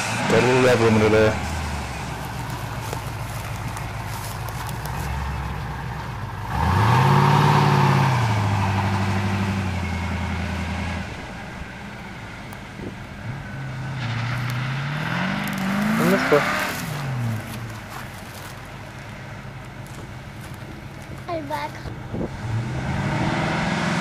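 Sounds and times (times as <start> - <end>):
engine revving: 0.0 - 20.6, 22.0 - 24.0.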